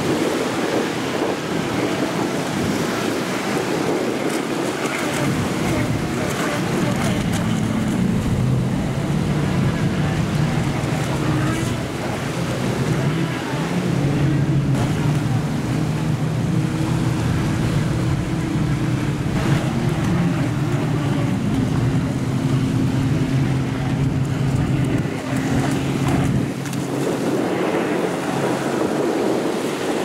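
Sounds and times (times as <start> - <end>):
boat electric motor: 0.0 - 30.0
waves washing: 0.0 - 30.0
wind on microphone: 0.0 - 30.0.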